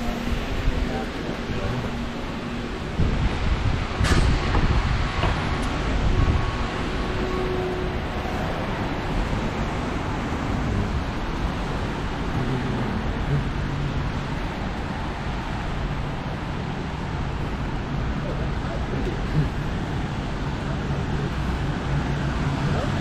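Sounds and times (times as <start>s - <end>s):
low vehicle engine hum: 0.0s - 23.0s
traffic on wet streets: 0.0s - 23.0s.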